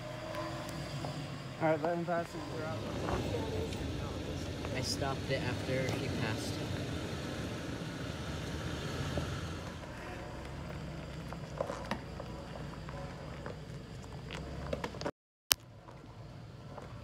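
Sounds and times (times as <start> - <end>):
suv engine running low: 0.0 - 15.1, 15.7 - 17.0.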